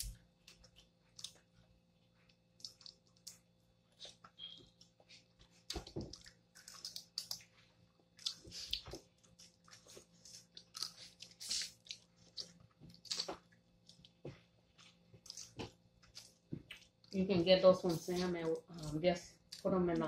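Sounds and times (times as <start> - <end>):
chewing: 0.4 - 17.2.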